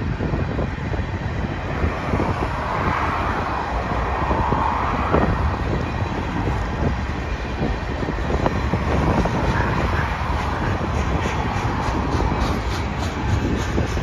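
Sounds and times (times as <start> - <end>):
rumble of wheels on rail: 0.0 - 14.0.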